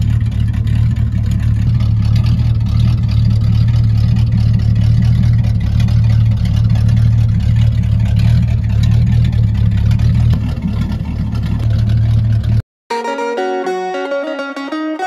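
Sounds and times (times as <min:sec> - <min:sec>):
car engine idling with open exhaust: 0:00.0 - 0:12.6.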